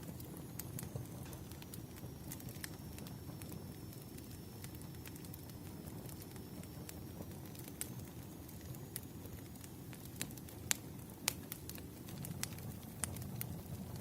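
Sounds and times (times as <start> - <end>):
low rumble of flames: 0.0 - 14.0.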